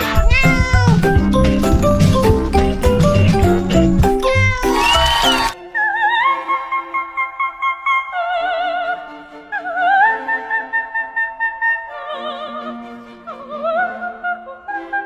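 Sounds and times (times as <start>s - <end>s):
background music: 0.0s - 15.0s
operatic singing: 0.0s - 15.0s.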